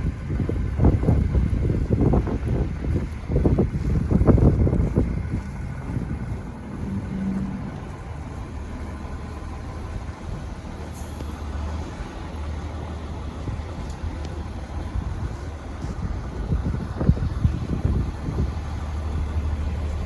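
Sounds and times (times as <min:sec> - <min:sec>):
city traffic engine rumble: 0:00.0 - 0:20.0
wind buffeting microphone: 0:00.0 - 0:20.0.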